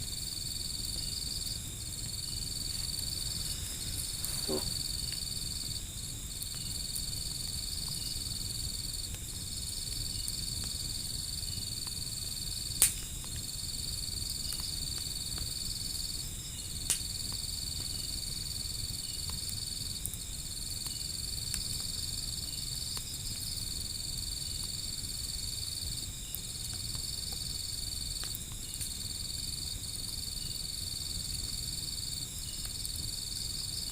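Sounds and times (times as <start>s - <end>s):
insects trilling: 0.0s - 33.9s
wood fire popping: 0.0s - 33.9s.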